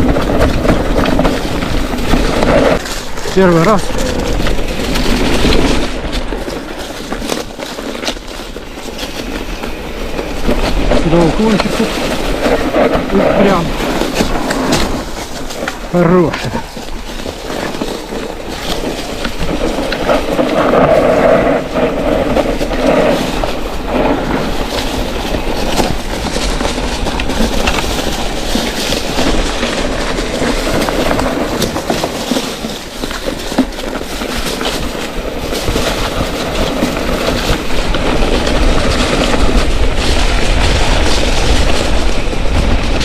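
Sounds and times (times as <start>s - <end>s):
bike rattling and clicking: 0.0s - 43.0s
tyres crunching over stones: 0.0s - 43.0s.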